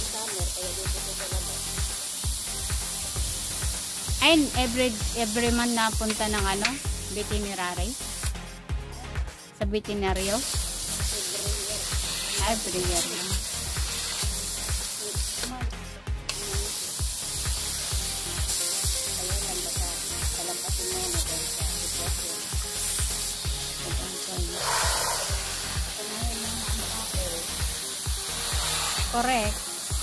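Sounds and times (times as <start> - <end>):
garden hose spraying water: 0.0 - 8.6, 9.9 - 30.0
background music with steady beat: 0.0 - 30.0.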